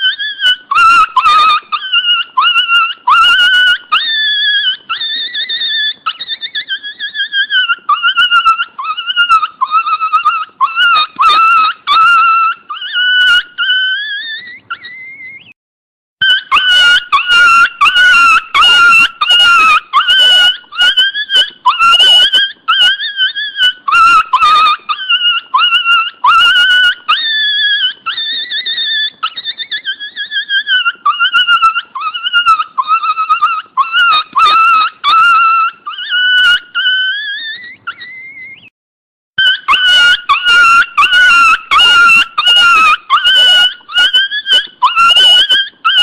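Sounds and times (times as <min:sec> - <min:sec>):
dog yipping: 0:00.0 - 0:15.5, 0:16.2 - 0:38.7, 0:39.4 - 0:46.0
dog whining: 0:00.0 - 0:15.6, 0:16.2 - 0:38.7, 0:39.4 - 0:46.0.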